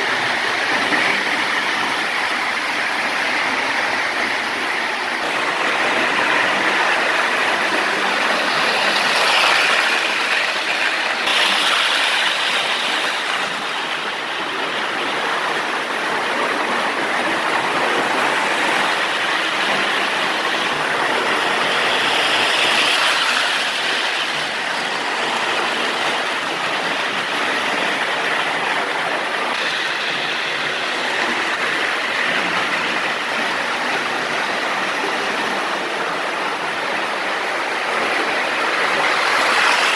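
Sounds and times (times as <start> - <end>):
toy train motor whirring: 0.0 - 35.6, 37.5 - 39.9.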